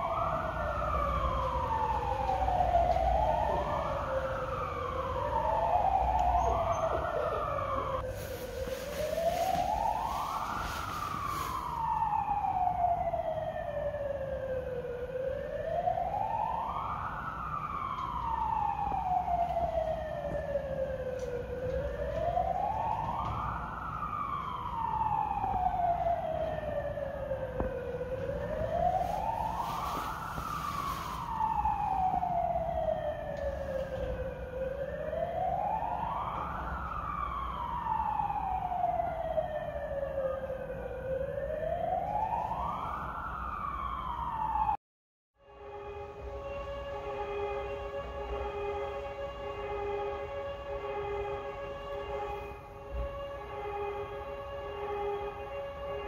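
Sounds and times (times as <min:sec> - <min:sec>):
wailing alarm siren: 0:00.0 - 0:44.8, 0:45.4 - 0:56.0.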